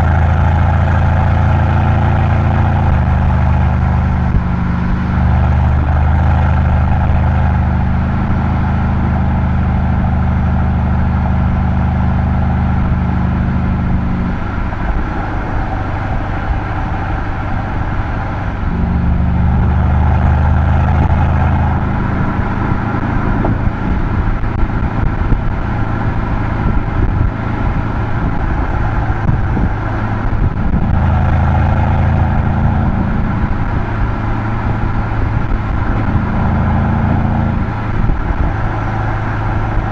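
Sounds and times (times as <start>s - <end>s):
car exhaust droning: 0.0s - 39.9s
tyre and road noise: 0.0s - 39.9s.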